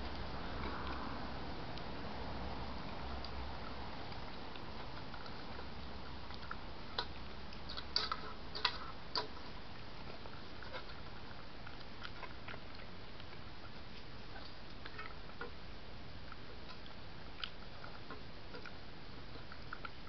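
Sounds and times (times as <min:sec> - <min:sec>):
badger teeth clicking on bowls: 0:02.9 - 0:15.6, 0:16.2 - 0:20.0.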